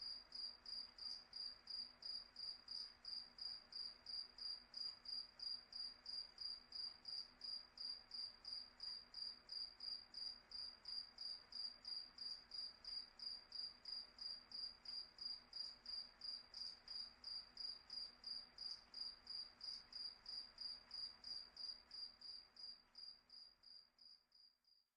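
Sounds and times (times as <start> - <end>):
cricket chirping: 0.0 - 24.8.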